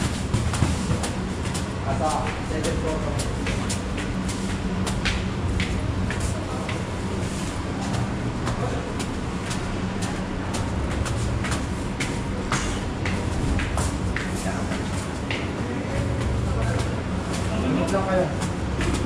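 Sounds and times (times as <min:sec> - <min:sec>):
footsteps walking: 0:00.0 - 0:19.0
steady low hum: 0:00.0 - 0:19.0.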